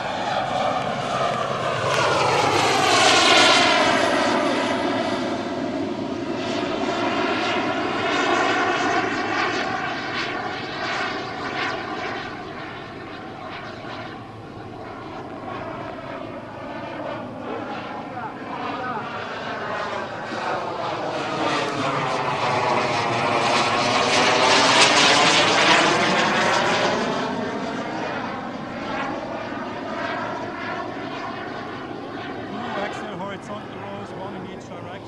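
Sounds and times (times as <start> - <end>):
model jet turbine whine: 0.0 - 35.0.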